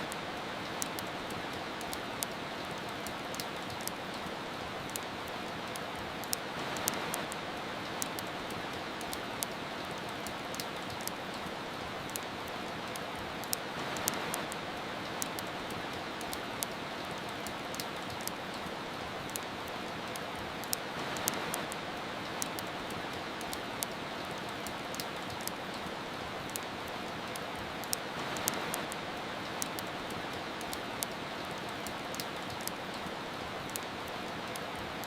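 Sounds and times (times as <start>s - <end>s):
rain hiss: 0.0s - 35.0s
wood fire crackling: 0.0s - 35.0s.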